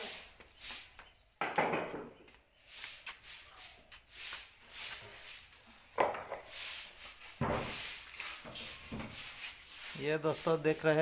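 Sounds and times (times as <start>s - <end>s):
broom sweeping floor: 0.0s - 1.2s, 2.5s - 11.0s.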